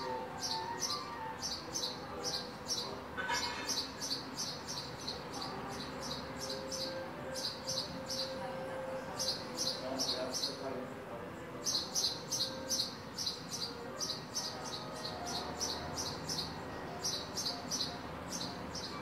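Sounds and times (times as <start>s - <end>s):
sparrow chirping: 0.0s - 10.9s, 11.6s - 19.0s.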